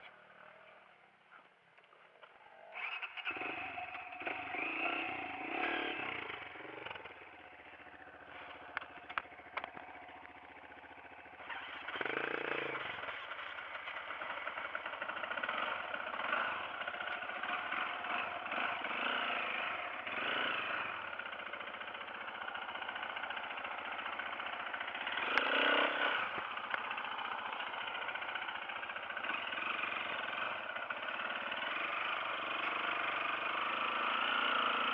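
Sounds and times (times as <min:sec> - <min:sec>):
dirt bike engine revving: 0:02.4 - 0:34.9.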